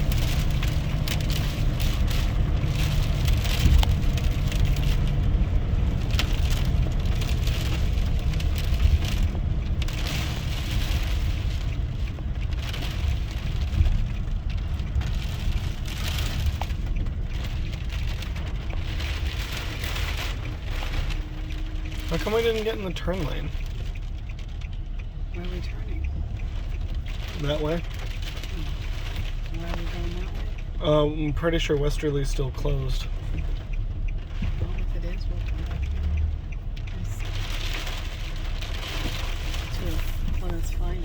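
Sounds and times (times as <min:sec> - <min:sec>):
engine and road noise: 0:00.0 - 0:41.0.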